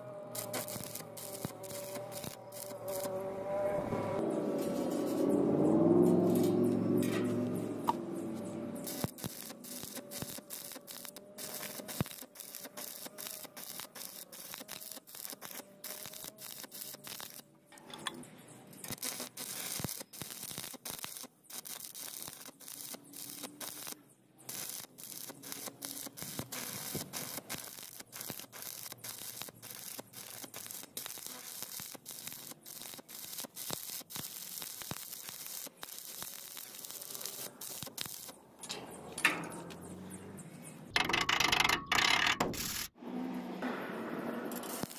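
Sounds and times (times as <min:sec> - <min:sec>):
welding arc crackling and sizzling: 0:00.0 - 0:05.4, 0:06.0 - 0:17.4, 0:18.8 - 0:38.4, 0:40.9 - 0:43.0, 0:44.5 - 0:44.9.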